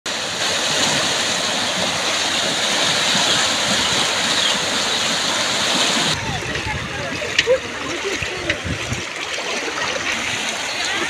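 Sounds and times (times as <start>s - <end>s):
floodwater rushing: 0.1s - 11.0s.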